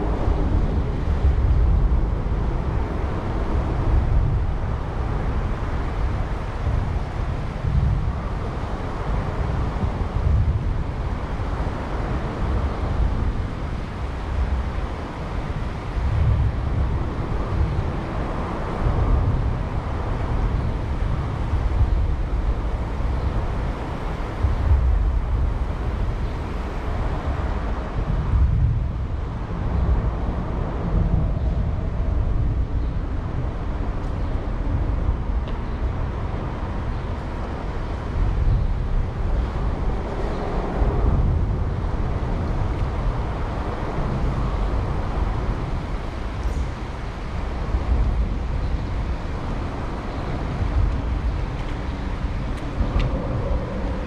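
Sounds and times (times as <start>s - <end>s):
low uneven rumble: 0.0s - 54.0s.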